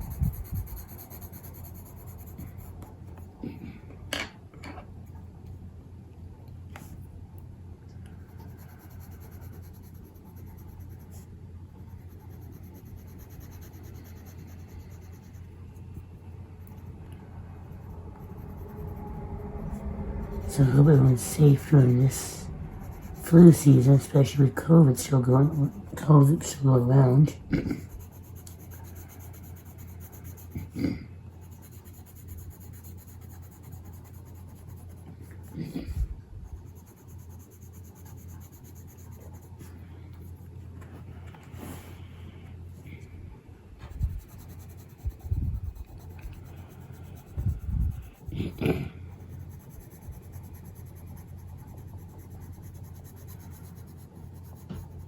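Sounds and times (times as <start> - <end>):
pencil shading on paper: 0.0 - 2.9, 8.2 - 17.0, 17.6 - 35.8, 36.5 - 40.4, 43.8 - 55.0
steady low hum: 0.0 - 55.0.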